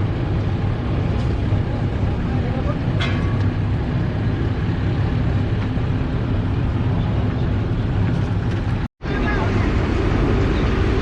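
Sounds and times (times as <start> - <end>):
engine running with low rumble: 0.0 - 11.0.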